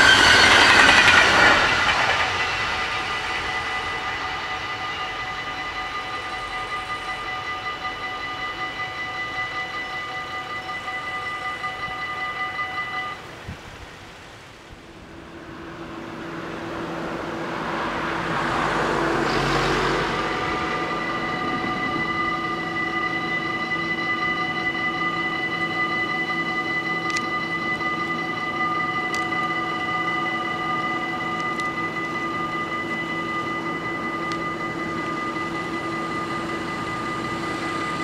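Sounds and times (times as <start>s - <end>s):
level-crossing warning bells: 0.0s - 38.0s
rushing sound: 0.0s - 38.0s.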